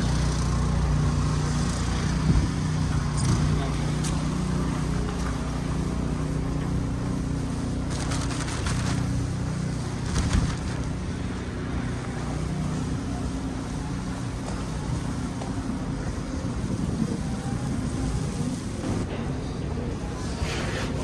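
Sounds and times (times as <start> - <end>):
traffic: 0.0 - 21.0
wind: 0.0 - 21.0.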